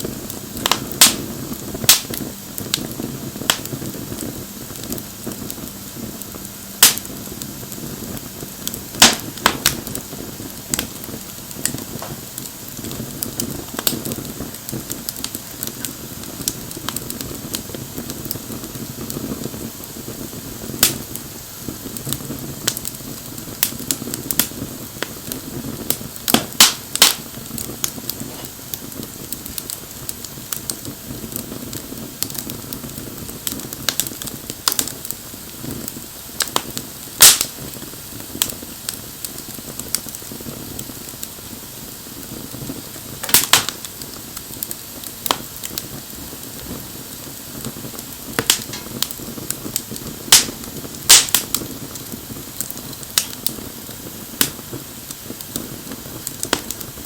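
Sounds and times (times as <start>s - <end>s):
fire crackling and popping: 0.0s - 57.0s
flames rushing: 0.0s - 57.0s.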